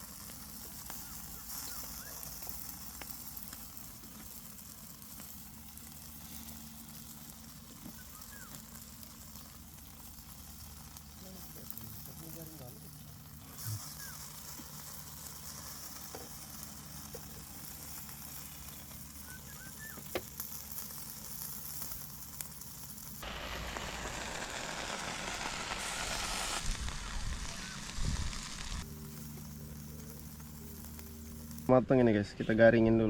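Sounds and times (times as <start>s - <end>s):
mussels sizzling on a grill: 0.0s - 31.7s.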